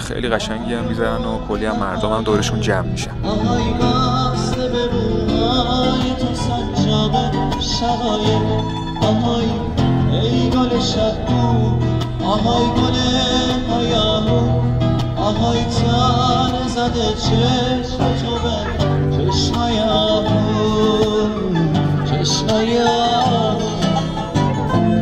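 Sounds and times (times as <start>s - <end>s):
acoustic guitar: 0.0s - 25.0s
man singing into a microphone: 0.0s - 25.0s.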